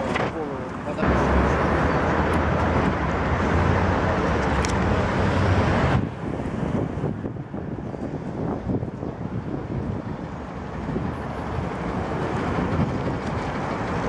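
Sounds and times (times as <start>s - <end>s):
street traffic: 0.0s - 14.0s
wind rumbling on microphone: 0.0s - 14.0s.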